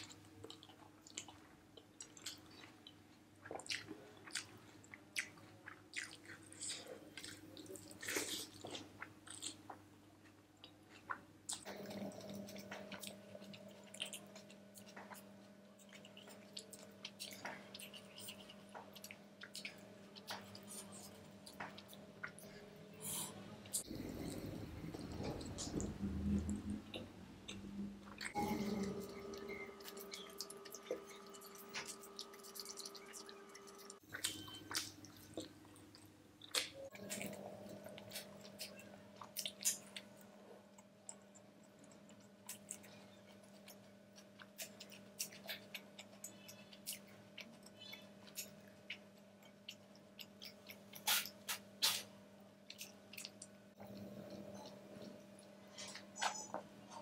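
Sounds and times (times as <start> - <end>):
chewing and wet mouth smacks: 0.0 - 52.1, 52.7 - 56.0
faint steady hum: 0.0 - 57.0.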